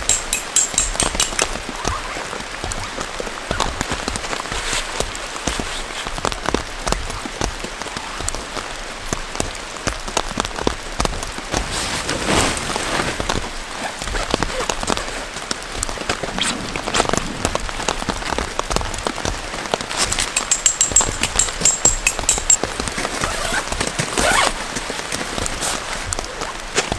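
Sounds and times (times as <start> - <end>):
heavy rain falling: 0.0 - 26.9
raindrops tapping on a surface: 0.0 - 26.9.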